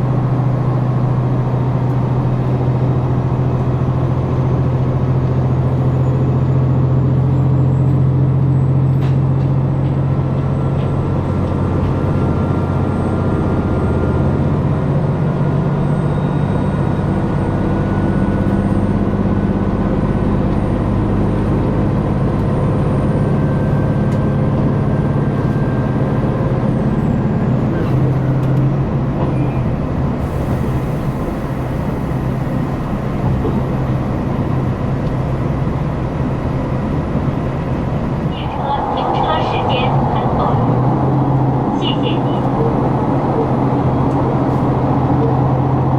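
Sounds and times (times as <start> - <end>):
diesel railcar engine drone: 0.0 - 45.9
rising engine whine: 0.0 - 45.9.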